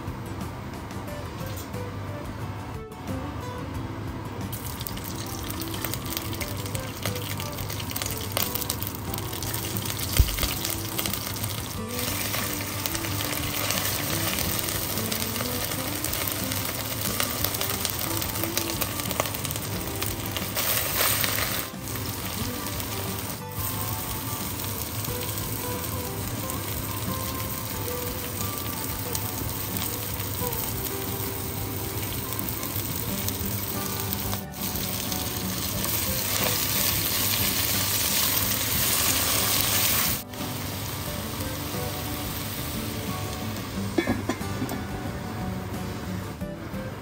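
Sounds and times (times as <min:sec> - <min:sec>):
spices sizzling in hot oil: 0:04.5 - 0:44.6.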